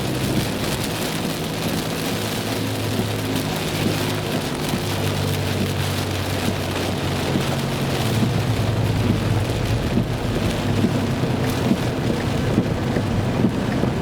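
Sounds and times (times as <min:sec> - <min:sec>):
engine and road noise hum: 0:00.0 - 0:14.0
rain pattering on a car: 0:00.0 - 0:14.0.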